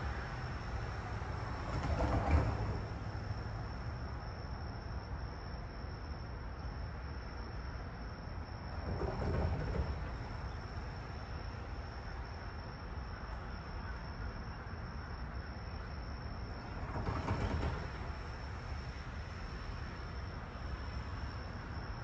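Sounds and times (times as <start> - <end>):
train station rumble: 0.0 - 22.0.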